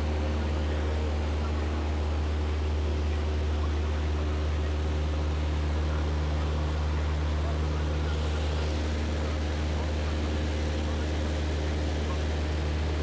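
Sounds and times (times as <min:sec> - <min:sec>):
light aircraft engine droning: 0:00.0 - 0:13.0.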